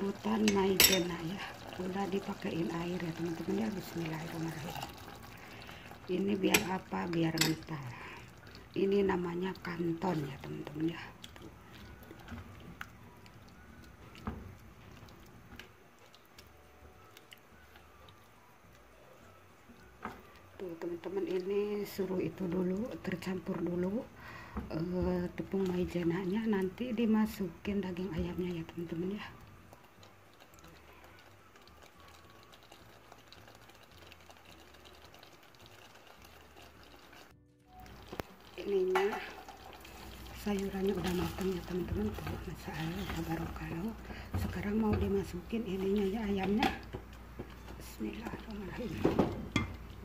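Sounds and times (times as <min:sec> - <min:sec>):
sauce simmering with small pops: 0:00.2 - 0:18.8, 0:19.6 - 0:50.0.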